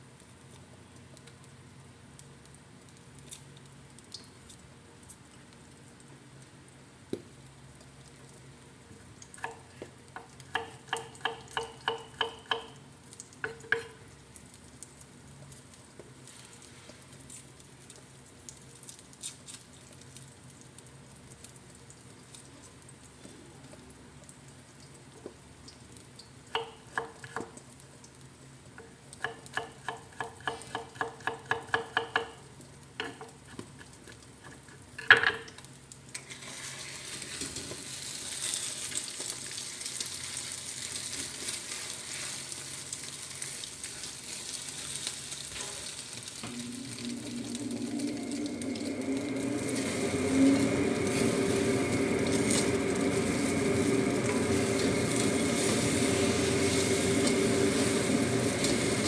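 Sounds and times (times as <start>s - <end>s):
omelette sizzling in a wok: 0.0s - 59.0s.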